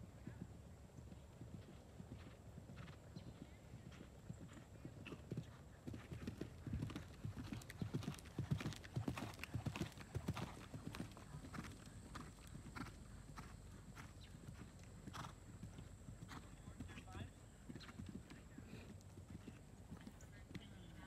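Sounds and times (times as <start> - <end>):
horse hooves cantering on soft ground: 0.0 - 21.0.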